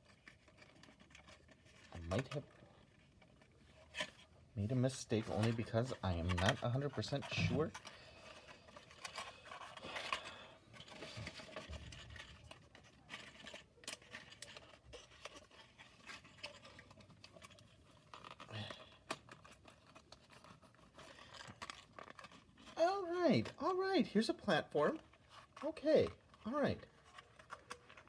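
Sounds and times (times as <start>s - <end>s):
cardboard scraping and rustling: 0.0s - 23.5s.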